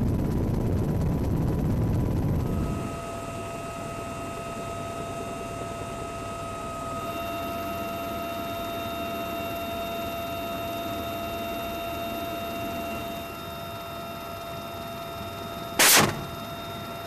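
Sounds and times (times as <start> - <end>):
helicopter rumble: 0.0 - 17.0
turbine whines: 0.0 - 17.0.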